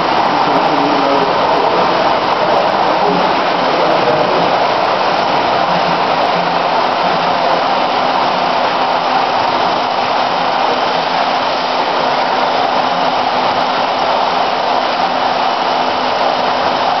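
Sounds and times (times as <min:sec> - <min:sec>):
conveyor machinery din: 0:00.0 - 0:17.0
low machine hum: 0:00.0 - 0:17.0.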